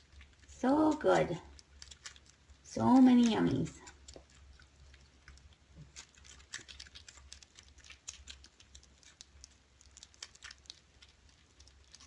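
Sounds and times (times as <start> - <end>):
kittens chewing: 0.0 - 12.0.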